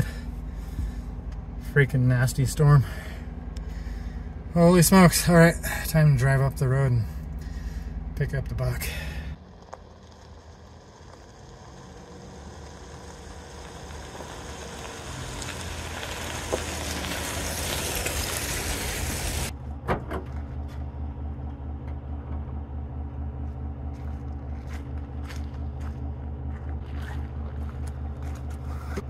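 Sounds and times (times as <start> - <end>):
tyres crunching on gravel: 0.0 - 19.5, 23.0 - 29.0
truck engine: 0.0 - 29.0.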